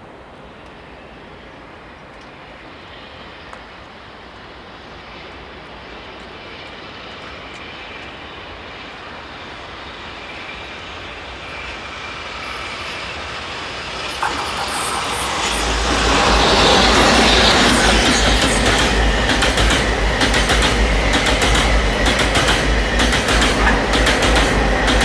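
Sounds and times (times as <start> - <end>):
freight train rumble: 0.0 - 25.0.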